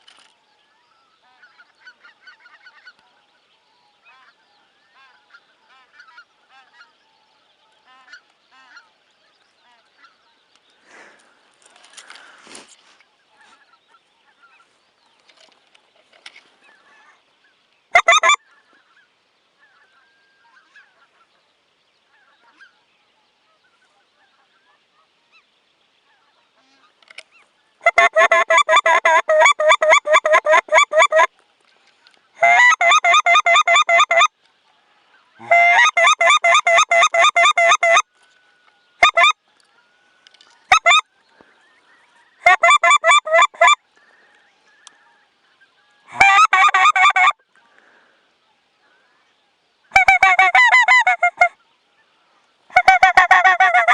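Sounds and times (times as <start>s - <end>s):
geese honking: 0.7s - 3.2s, 4.0s - 7.0s, 7.7s - 12.6s, 16.6s - 21.4s, 22.0s - 31.3s, 32.0s - 53.9s.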